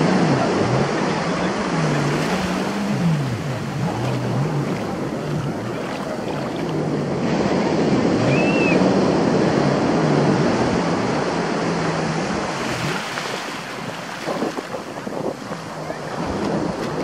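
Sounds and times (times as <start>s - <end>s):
surf washing over beach: 0.0s - 17.0s.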